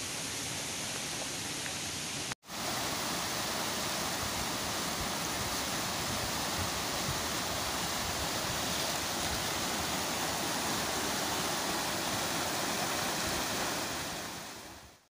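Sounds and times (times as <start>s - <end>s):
stream splashing over boulders: 0.0s - 15.0s.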